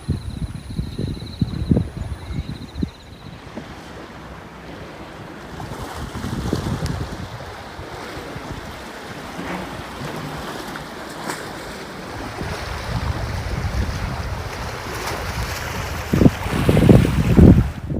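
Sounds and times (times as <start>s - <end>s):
sea waves washing on shore: 0.0s - 17.9s
wind buffeting microphone: 0.0s - 17.9s.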